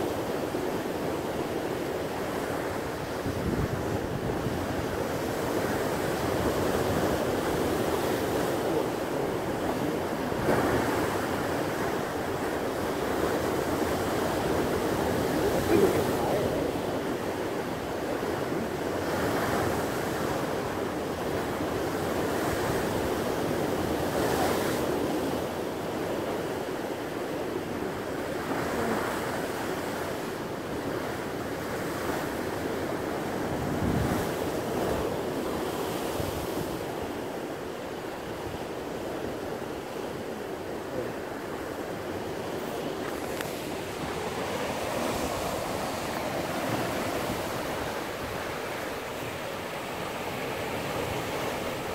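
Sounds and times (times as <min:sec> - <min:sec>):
ocean surf breaking on rocks: 0:00.0 - 0:51.9.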